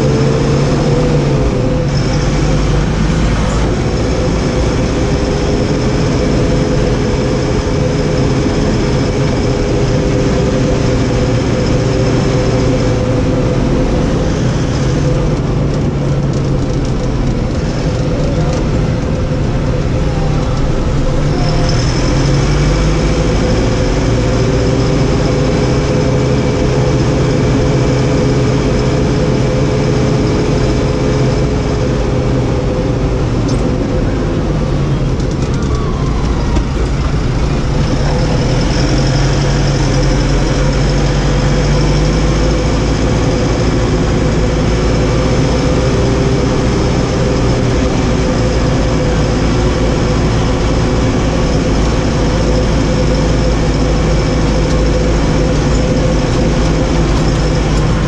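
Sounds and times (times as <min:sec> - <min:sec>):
steady high whine: 0:00.0 - 0:58.0
tractor diesel engine running: 0:00.0 - 0:58.0.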